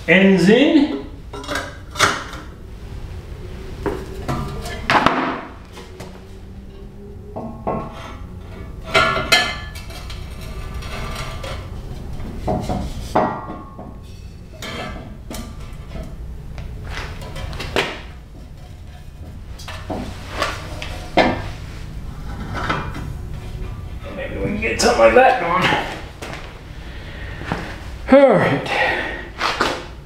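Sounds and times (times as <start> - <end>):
metal pipes clanking: 0.0 - 2.7, 3.7 - 26.7.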